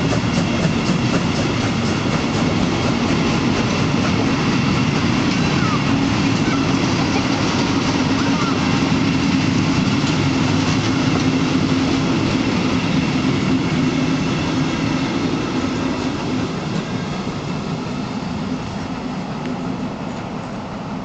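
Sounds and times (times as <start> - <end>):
train coaches rumbling on rails: 0.0 - 21.0.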